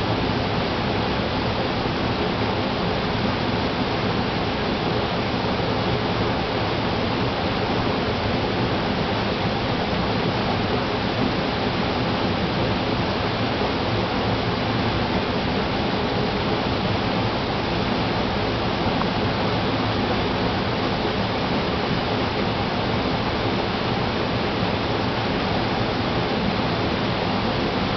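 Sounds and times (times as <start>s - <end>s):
stream water rushing: 0.0s - 27.9s.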